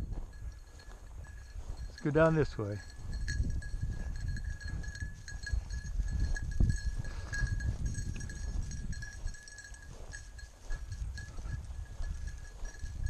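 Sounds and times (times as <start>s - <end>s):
wind rumbling on microphone: 0.0s - 13.0s
faint high ringing: 0.2s - 13.0s.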